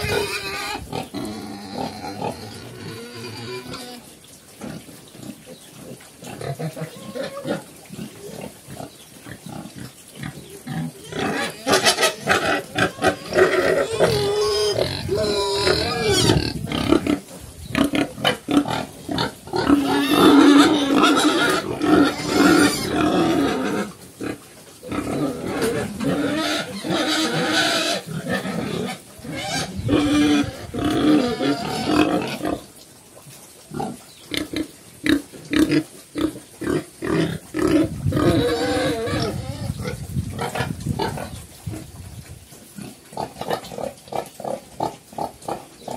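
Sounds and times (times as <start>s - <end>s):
pigs calling: 0.0s - 45.9s.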